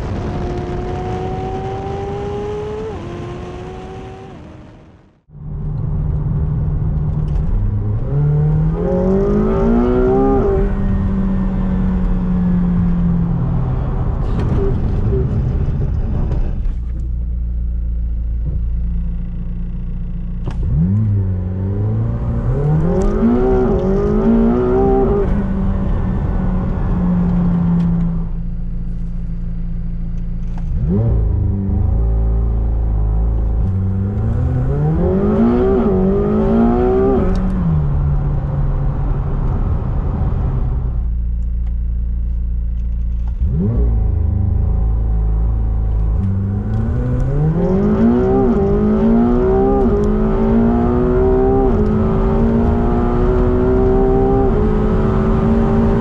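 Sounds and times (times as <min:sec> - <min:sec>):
car engine accelerating with upshifts: 0:00.0 - 0:56.0.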